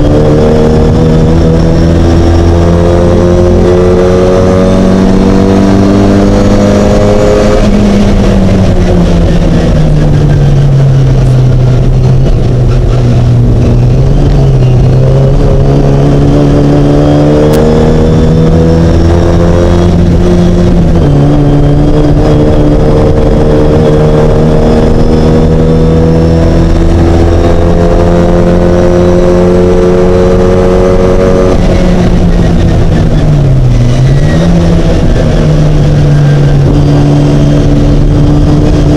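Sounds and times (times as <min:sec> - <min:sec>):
race car engine running hard: 0:00.0 - 0:38.9.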